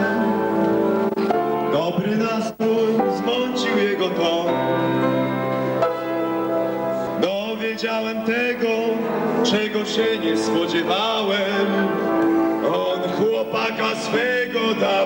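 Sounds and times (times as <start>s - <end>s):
person singing into a microphone: 0.0s - 5.7s, 7.2s - 15.0s.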